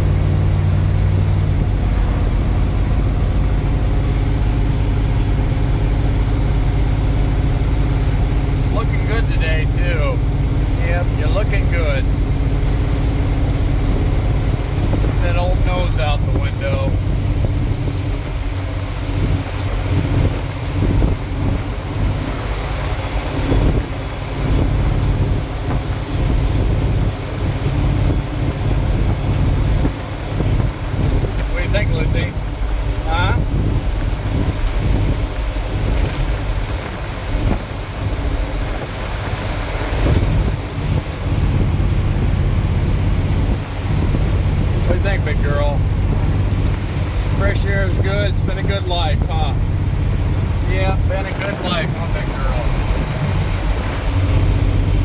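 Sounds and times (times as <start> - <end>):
road and wind noise: 0.0 - 55.0
truck engine hum: 0.0 - 55.0.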